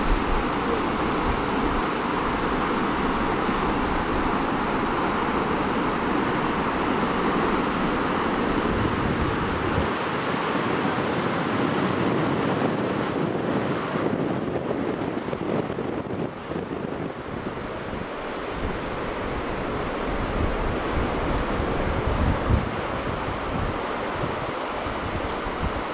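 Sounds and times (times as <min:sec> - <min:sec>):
ocean surf breaking over rocks: 0:00.0 - 0:25.9
wind buffeting microphone: 0:00.0 - 0:25.9.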